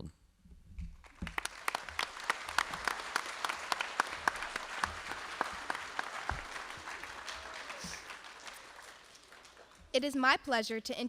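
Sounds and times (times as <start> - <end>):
audience applauding: 1.0 - 9.9.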